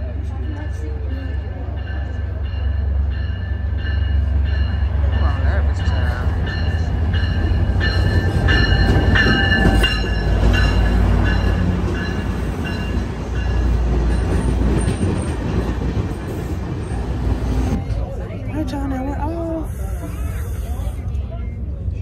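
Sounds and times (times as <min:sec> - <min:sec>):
train cars rolling by: 0:00.0 - 0:18.5
diesel locomotive rumble: 0:00.0 - 0:22.0.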